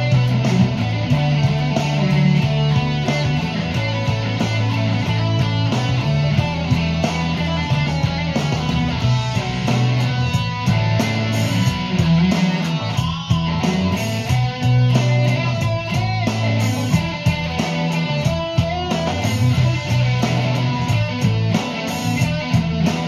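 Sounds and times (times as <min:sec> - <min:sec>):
bass line: 0:00.0 - 0:23.0
drum hits: 0:00.0 - 0:23.0
electric guitar rock riff: 0:00.0 - 0:23.0.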